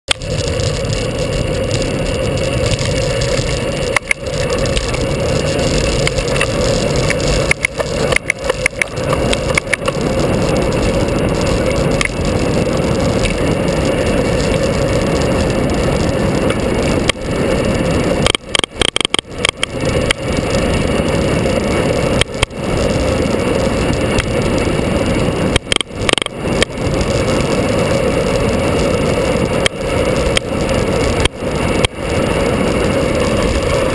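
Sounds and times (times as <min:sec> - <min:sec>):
vehicle engine: 0:00.1 - 0:33.9
wind noise: 0:00.1 - 0:33.9.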